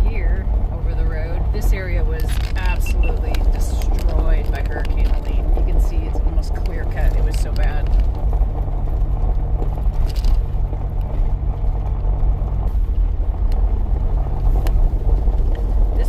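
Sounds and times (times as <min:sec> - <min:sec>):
car engine hum: 0:00.0 - 0:16.0
road noise inside moving car: 0:00.0 - 0:16.0.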